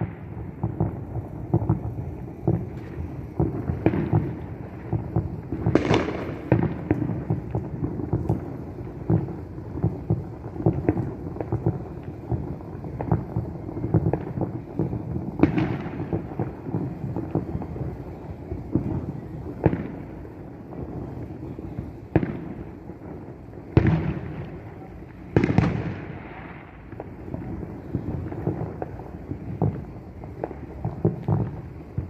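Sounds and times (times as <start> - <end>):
fireworks booming: 0.0 - 32.0
loud firework bangs with echo: 0.0 - 32.0.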